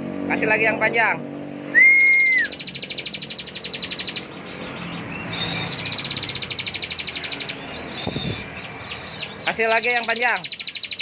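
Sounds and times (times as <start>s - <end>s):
bird rapid drilling trill: 1.3s - 11.0s.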